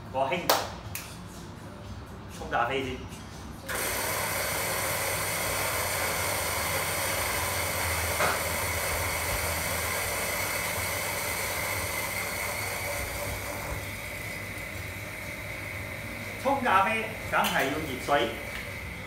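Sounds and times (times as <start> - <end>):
kettle heating water hiss: 3.7 - 19.0.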